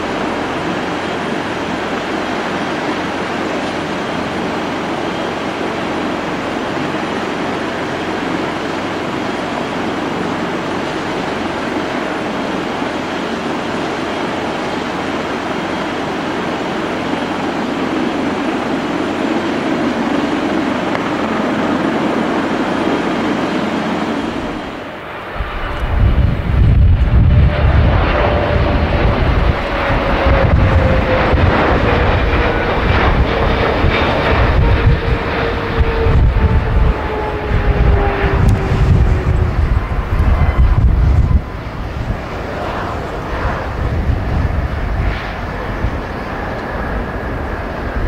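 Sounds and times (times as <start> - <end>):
jet engines whine and roar: 0.0 - 48.0.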